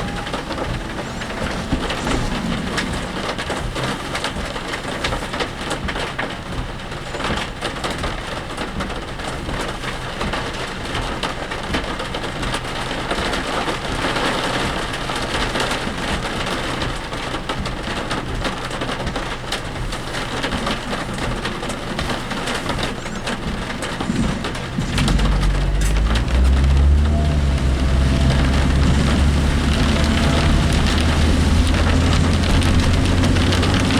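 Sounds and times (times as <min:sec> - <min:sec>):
engine and road hum: 0:00.0 - 0:33.9
heavy rain on vehicle: 0:00.0 - 0:33.9.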